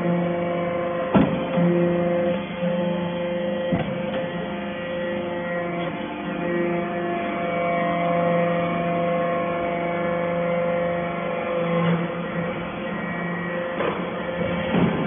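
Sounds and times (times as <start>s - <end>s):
motor and hydraulic pump humming: 0.0s - 15.0s.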